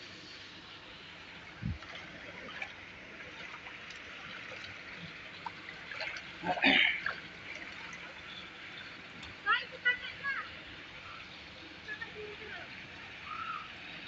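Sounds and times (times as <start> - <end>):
water pouring into a pool: 0.0 - 14.0.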